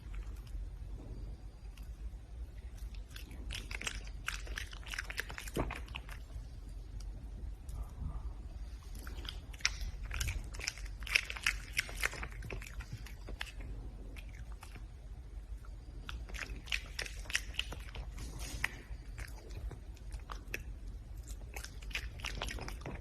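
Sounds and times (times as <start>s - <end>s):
animal crunching food: 0.0s - 7.8s, 8.7s - 23.0s.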